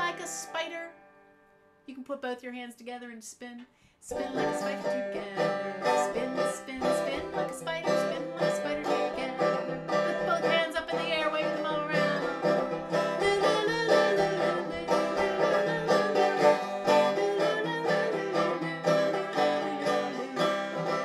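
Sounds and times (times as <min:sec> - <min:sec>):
bouncy plucked-string music: 0:00.0 - 0:01.2, 0:04.1 - 0:21.0.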